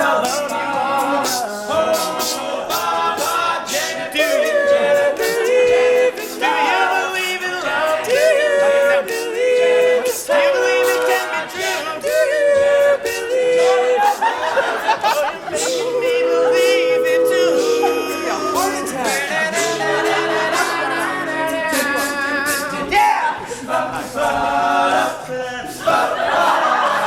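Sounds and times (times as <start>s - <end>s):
steady beat: 0.0s - 25.0s
male a cappella group singing: 0.0s - 27.0s.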